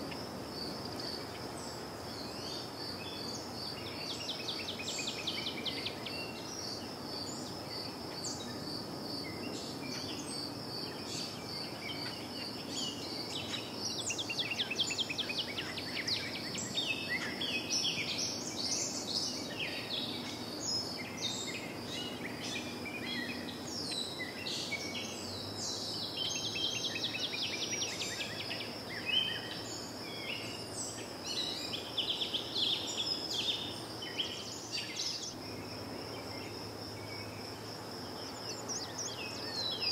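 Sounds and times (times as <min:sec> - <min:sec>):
high insect trill: 0:00.0 - 0:39.9
songbirds chirping: 0:00.0 - 0:39.9.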